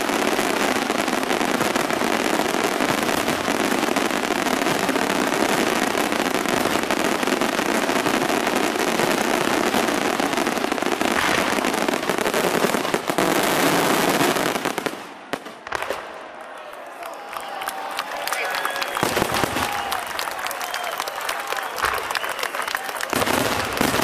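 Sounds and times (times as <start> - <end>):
fireworks bangs and crackling: 0.0 - 16.6, 18.0 - 24.0.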